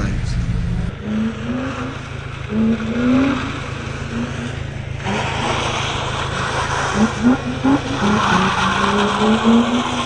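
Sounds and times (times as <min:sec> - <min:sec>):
car engine revving: 0:00.0 - 0:10.0
tyres skidding on pavement: 0:01.4 - 0:10.0.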